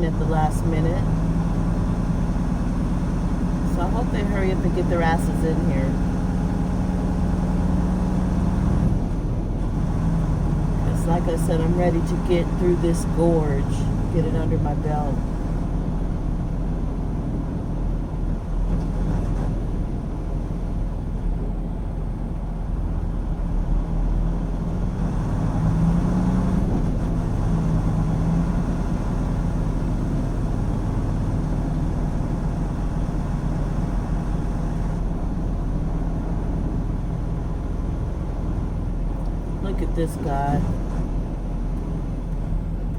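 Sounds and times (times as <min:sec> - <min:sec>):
truck diesel engine drone: 0:00.0 - 0:42.9.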